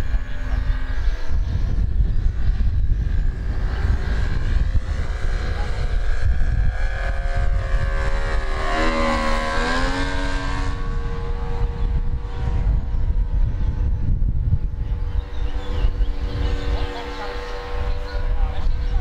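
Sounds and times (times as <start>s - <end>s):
model plane engine drone: 0.0s - 19.0s
wind buffeting microphone: 0.0s - 19.0s.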